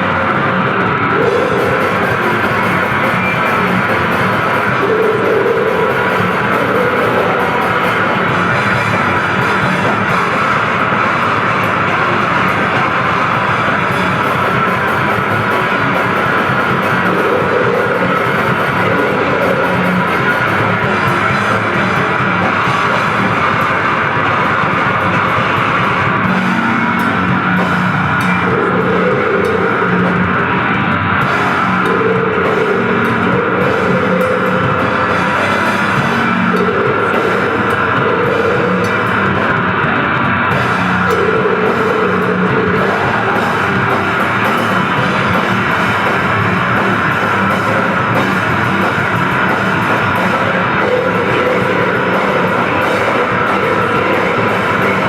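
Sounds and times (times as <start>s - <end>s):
bass riffing: 0.0s - 55.0s
distorted electric guitar: 0.0s - 55.0s
drum kit: 0.0s - 55.0s.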